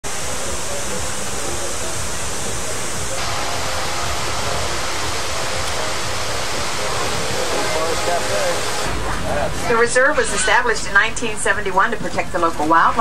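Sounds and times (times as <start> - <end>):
loud rushing noise: 0.0 - 11.0.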